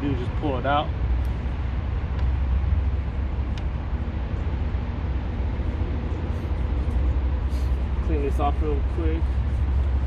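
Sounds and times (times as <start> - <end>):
highway traffic rumble: 0.0 - 10.0.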